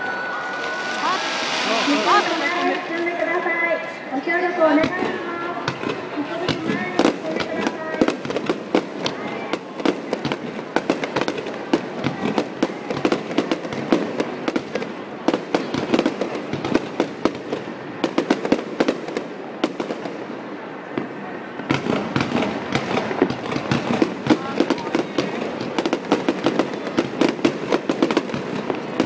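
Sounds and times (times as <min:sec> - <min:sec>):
fireworks popping and crackling: 0:00.0 - 0:29.0.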